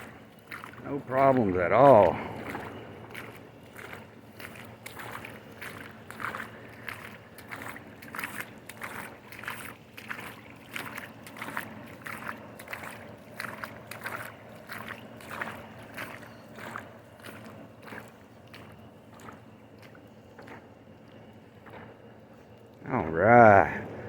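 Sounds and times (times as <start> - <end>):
footsteps splashing through water: 0.0 - 24.0
vehicle engine running low: 0.0 - 24.0.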